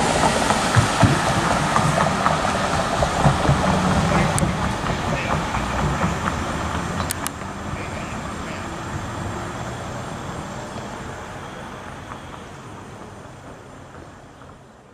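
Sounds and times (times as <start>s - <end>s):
freight train rumble: 0.0s - 14.9s.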